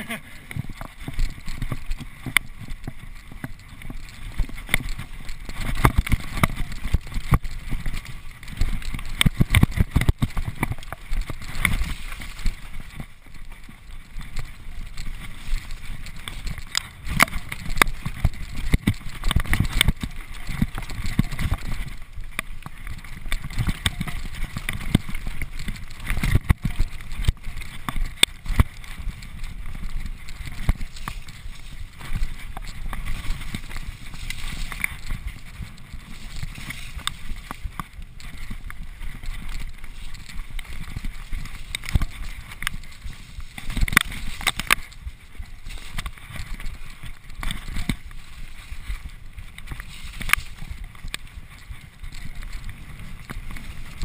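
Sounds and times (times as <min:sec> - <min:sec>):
bike rattling over bumps: 0:00.0 - 0:54.0
bike tyres rumbling over dirt: 0:00.0 - 0:54.0.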